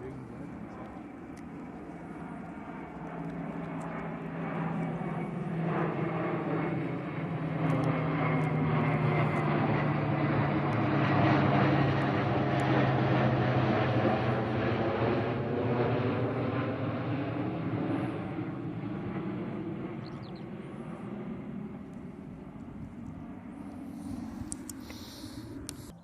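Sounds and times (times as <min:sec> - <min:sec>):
turboprop aircraft droning: 0:00.0 - 0:26.0.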